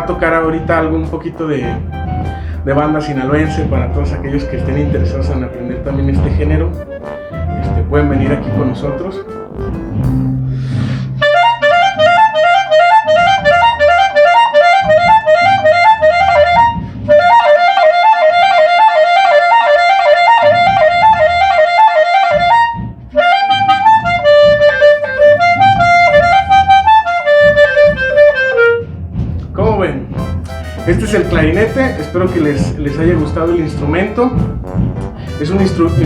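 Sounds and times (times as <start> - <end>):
clarinet playing fast melody: 0.0 - 28.8, 30.2 - 36.0.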